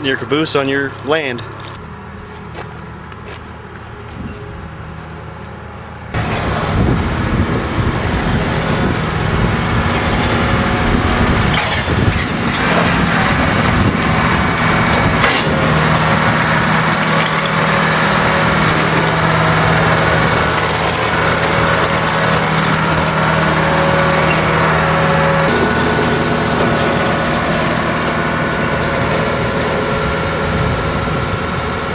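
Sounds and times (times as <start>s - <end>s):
heavy equipment engine running: 0.0s - 31.9s
steady low hum: 0.0s - 31.9s.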